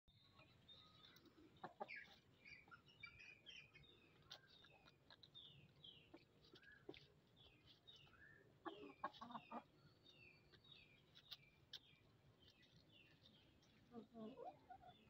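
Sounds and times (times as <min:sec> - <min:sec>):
chickens clucking: 0:00.3 - 0:15.0.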